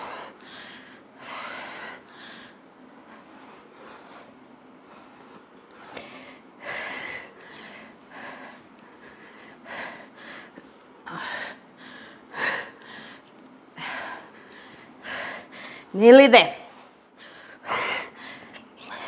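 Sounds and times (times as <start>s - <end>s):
woman breathing hard: 0.0s - 15.9s, 17.1s - 19.0s.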